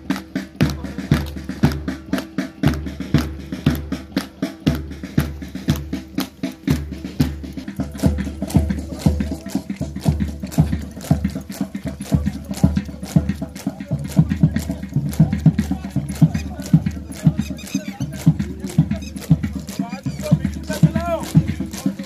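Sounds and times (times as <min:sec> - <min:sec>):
music with steady drum beat: 0:00.0 - 0:22.0
sharp percussive clicks: 0:00.0 - 0:22.0.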